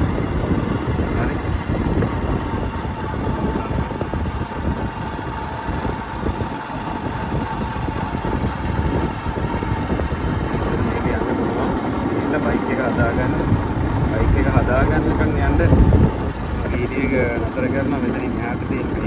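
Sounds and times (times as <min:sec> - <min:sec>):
faint steady whine: 0:00.0 - 0:19.0
motorcycle engine running: 0:00.0 - 0:19.0
wind noise on microphone: 0:00.0 - 0:19.0.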